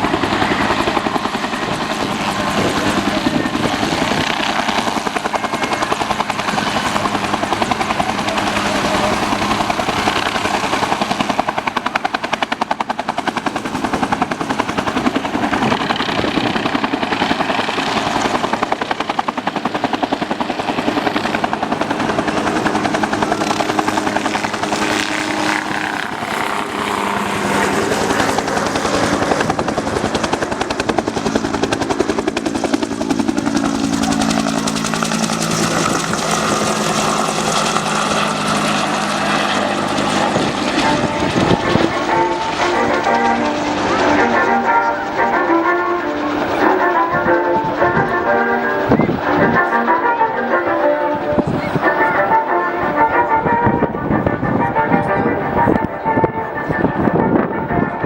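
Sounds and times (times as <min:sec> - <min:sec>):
helicopter rotor blades chopping: 0:00.0 - 0:58.0
turbine engines: 0:00.0 - 0:58.0.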